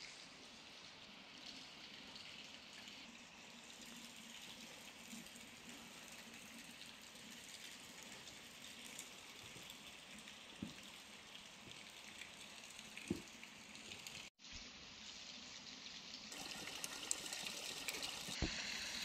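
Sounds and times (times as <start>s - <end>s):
faint hiss of water: 0.0s - 19.0s.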